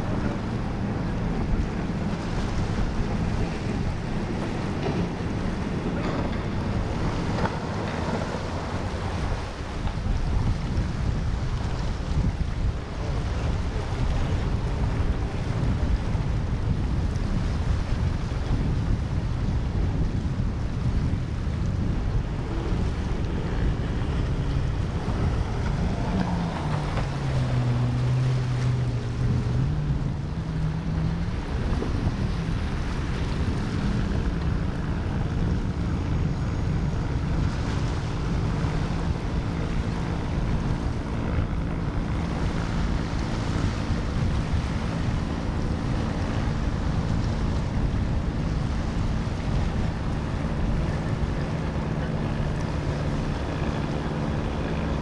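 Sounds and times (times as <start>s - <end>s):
powerboat engines humming: 0.0s - 55.0s
waves and surf: 0.0s - 55.0s
wind buffeting microphone: 0.0s - 55.0s.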